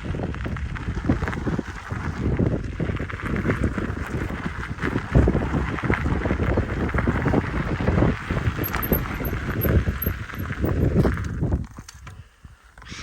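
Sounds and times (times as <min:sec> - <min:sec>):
bike tyres crunching on trail: 0:00.0 - 0:12.7
wind buffeting microphone: 0:00.0 - 0:13.0
bike rattling and knocking: 0:00.3 - 0:12.0.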